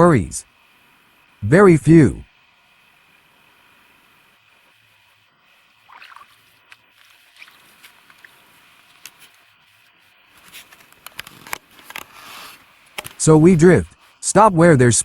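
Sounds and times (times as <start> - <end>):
soft hiss: 0.0 - 1.4, 2.3 - 15.0.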